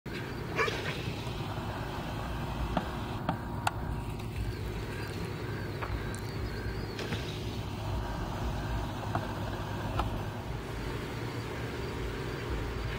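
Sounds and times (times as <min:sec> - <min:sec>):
low outdoor rumble: 0:00.1 - 0:12.9.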